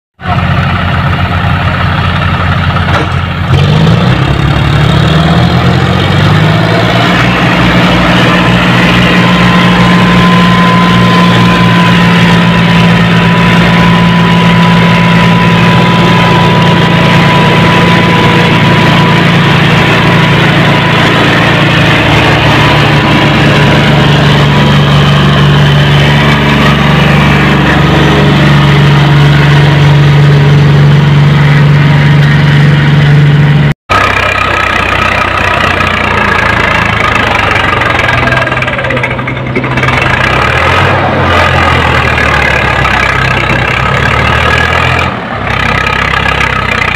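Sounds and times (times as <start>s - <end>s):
tractor diesel engines under load: 0.2s - 46.9s.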